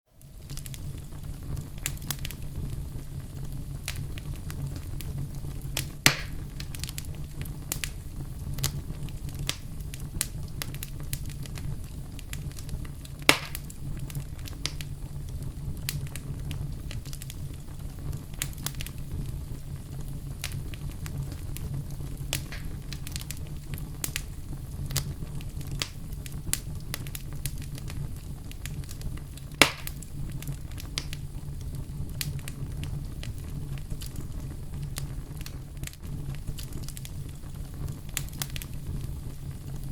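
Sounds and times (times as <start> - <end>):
fire popping: 0.1 - 39.9
wood fire crackling: 0.1 - 39.9.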